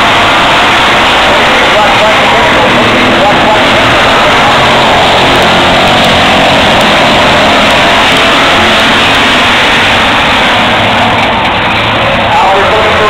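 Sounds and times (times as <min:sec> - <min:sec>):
racing car engines passing: 0:00.0 - 0:13.0.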